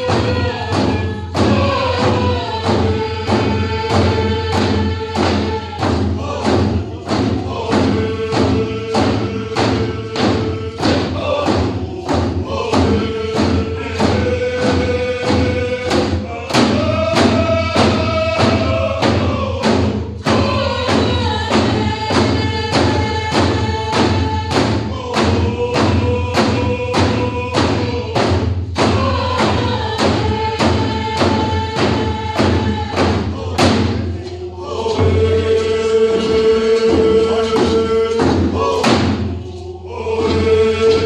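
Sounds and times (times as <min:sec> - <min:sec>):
hand drums beating: 0:00.0 - 0:39.4
group singing in unison: 0:00.0 - 0:41.0.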